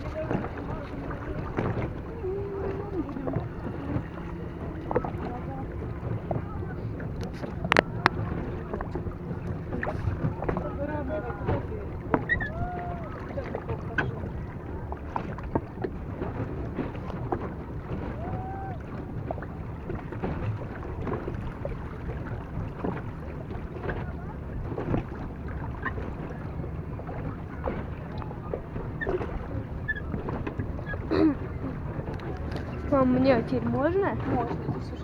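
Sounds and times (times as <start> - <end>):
water splashing against boat hull: 0.0 - 35.0
wind rumble on microphone: 0.0 - 35.0.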